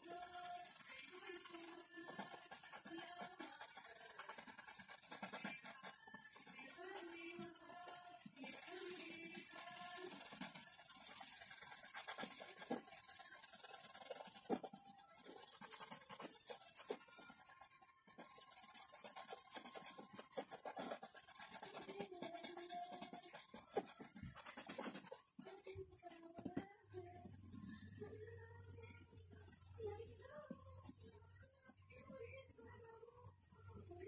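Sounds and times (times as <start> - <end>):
pencil shading on paper: 0.0 - 34.0.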